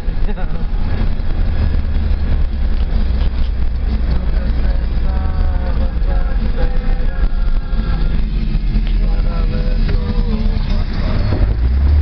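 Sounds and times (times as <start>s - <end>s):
car engine and road noise: 0.0s - 12.0s
faint voices: 2.2s - 12.0s.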